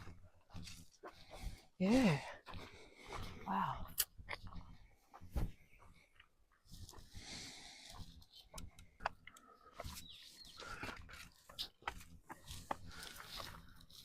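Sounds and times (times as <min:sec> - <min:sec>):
footsteps crunching on rocks: 0:00.0 - 0:07.3, 0:07.9 - 0:14.0.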